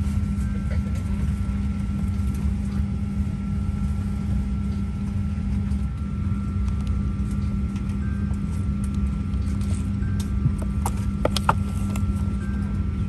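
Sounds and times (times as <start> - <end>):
constant rumble: 0.0 - 13.0
low mechanical hum: 0.0 - 13.0.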